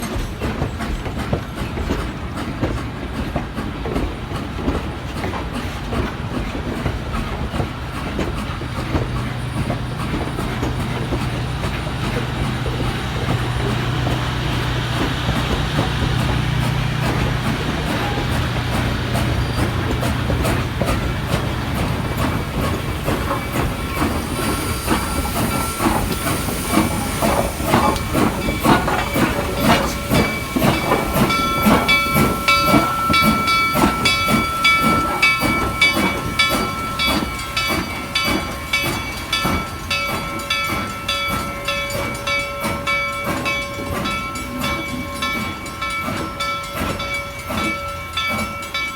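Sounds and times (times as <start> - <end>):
clicks and clanks of locomotive: 0.0 - 48.9
steam hissing: 0.0 - 48.9.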